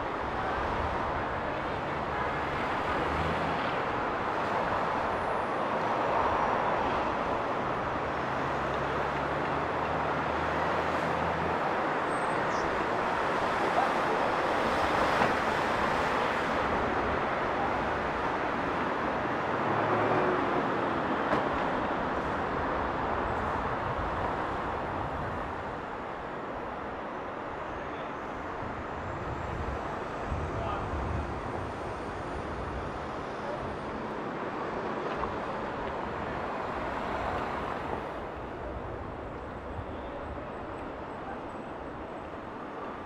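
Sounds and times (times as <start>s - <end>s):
vehicles passing: 0.0s - 43.0s.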